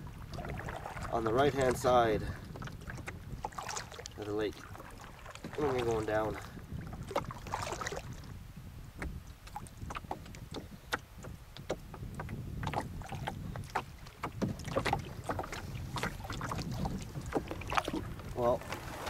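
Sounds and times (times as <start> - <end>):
waves slapping a hull: 0.0 - 19.0
wind rumble on microphone: 0.0 - 19.0.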